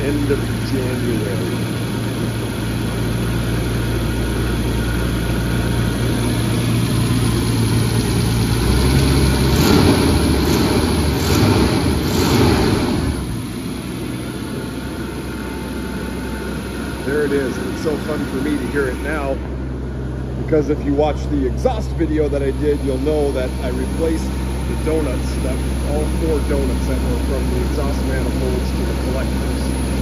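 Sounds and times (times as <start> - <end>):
engine revving: 0.0 - 14.7, 20.4 - 30.0
car engine idling: 0.0 - 30.0.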